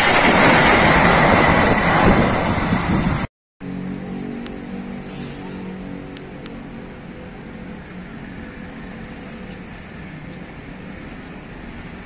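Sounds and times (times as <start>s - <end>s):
engine hum: 0.0s - 12.0s
outdoor noise: 0.0s - 12.0s.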